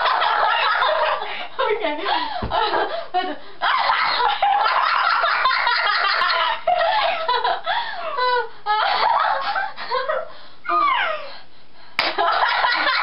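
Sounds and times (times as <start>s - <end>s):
girls giggling: 0.0s - 11.3s, 12.0s - 13.0s.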